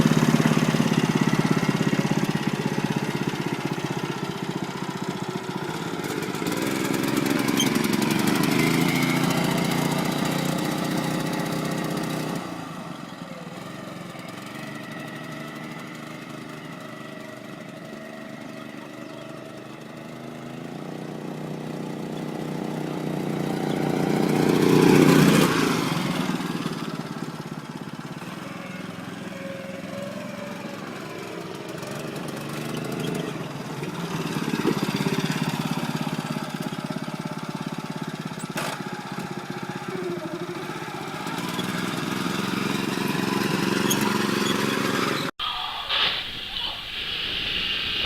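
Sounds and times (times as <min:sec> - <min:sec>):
go-kart engine revving: 0:00.0 - 0:45.4.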